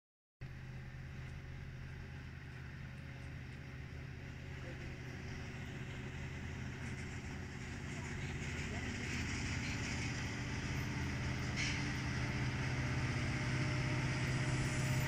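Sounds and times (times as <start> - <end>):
diesel locomotive engines droning: 0.4 - 15.0.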